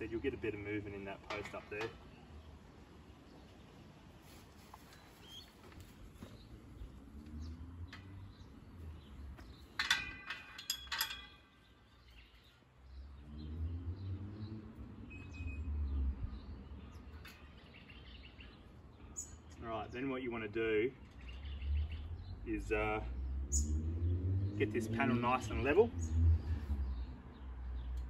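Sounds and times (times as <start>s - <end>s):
bird chirping: 1.9s - 28.0s.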